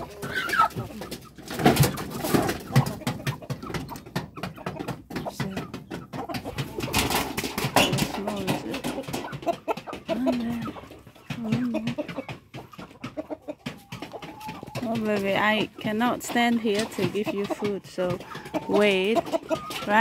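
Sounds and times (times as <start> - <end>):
chickens calling: 0.0 - 20.0.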